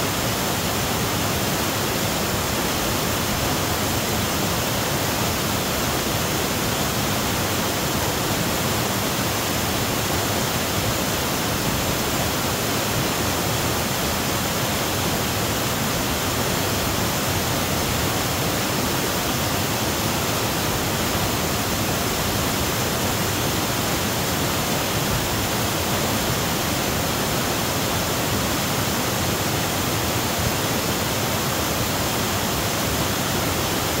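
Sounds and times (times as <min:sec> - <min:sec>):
waterfall rushing over boulders: 0:00.0 - 0:34.0.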